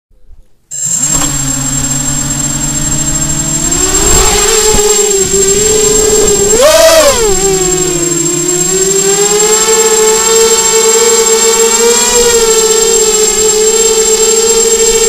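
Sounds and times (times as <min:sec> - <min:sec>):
quadcopter motors humming: 0:00.7 - 0:15.0
thin high whine: 0:00.7 - 0:15.0.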